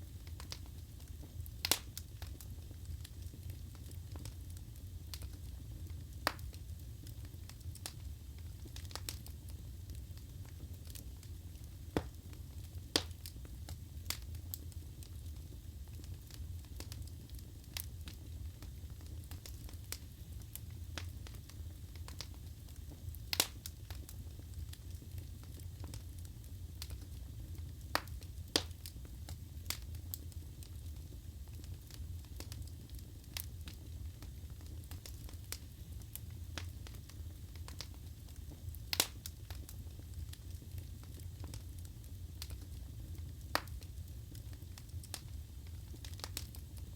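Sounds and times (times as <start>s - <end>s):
wood fire crackling: 0.0s - 46.9s
fire pops: 0.2s - 4.4s, 5.1s - 26.0s, 26.8s - 41.7s, 43.5s - 46.6s.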